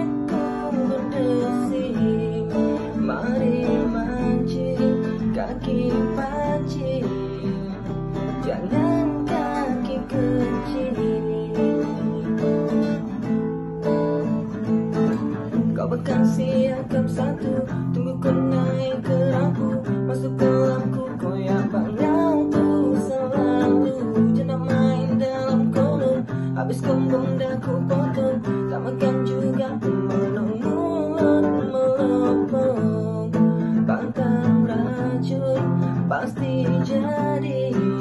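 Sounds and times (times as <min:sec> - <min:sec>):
song with strummed acoustic guitar: 0:00.0 - 0:38.0.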